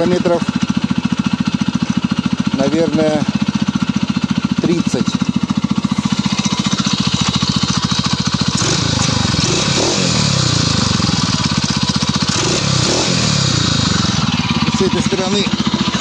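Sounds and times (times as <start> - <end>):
snowmobile engine idling and revving: 0.0 - 16.0.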